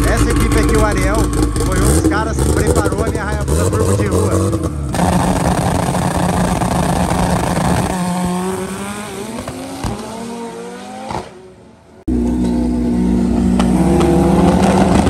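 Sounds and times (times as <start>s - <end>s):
drag car engine at full throttle: 0.0s - 15.0s.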